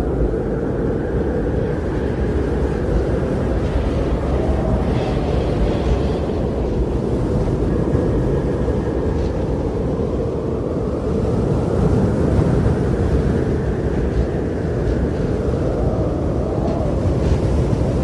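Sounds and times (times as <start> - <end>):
faint wind whistle: 0.0 - 18.0
strong blizzard wind: 0.0 - 18.0.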